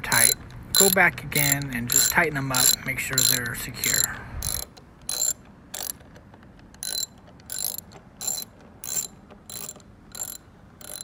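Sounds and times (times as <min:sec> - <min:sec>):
ratchet wrench clicking: 0:00.1 - 0:06.0, 0:06.8 - 0:11.0.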